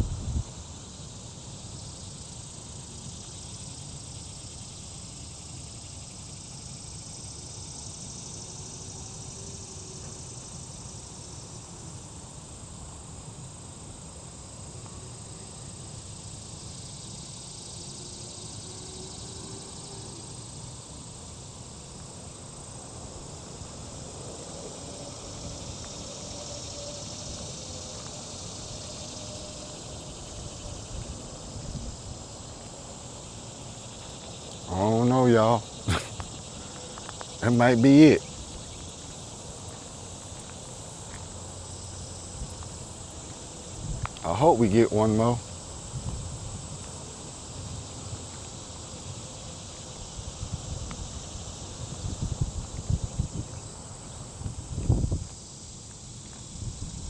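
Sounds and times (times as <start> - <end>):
high-pitched insect drone: 0.0 - 57.0.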